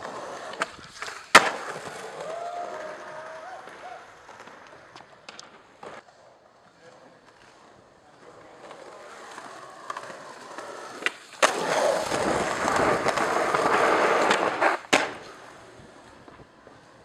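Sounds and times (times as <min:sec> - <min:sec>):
skateboard clack: 0:00.0 - 0:17.0
skateboard wheels rolling on concrete: 0:00.0 - 0:17.0.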